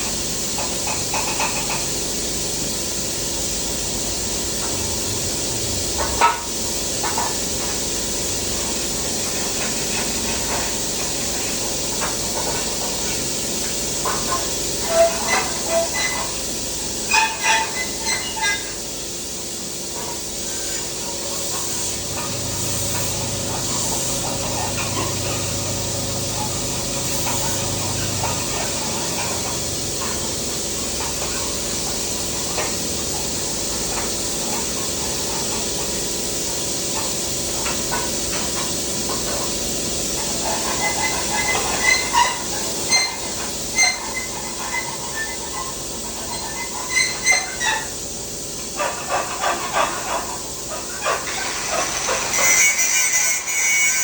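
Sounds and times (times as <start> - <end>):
welding arc hissing: 0.0 - 54.0.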